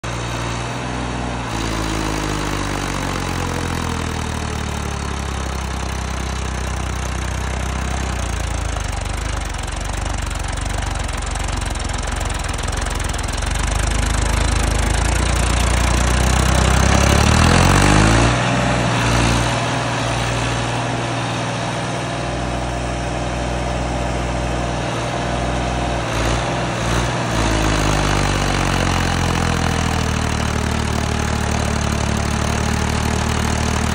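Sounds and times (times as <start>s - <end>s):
tractor diesel engine: 0.0s - 33.9s.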